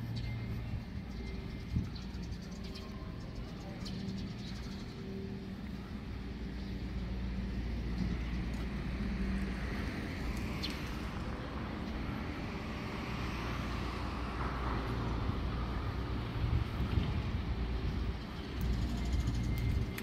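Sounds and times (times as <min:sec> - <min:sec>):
vehicles passing on road: 0:00.0 - 0:20.0.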